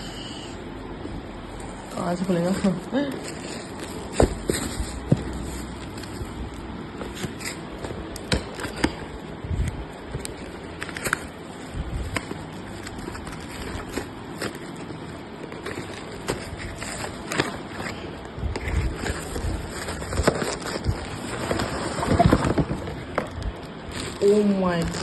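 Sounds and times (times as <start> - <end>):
packaging crinkling and scraping: 1.4 - 25.0.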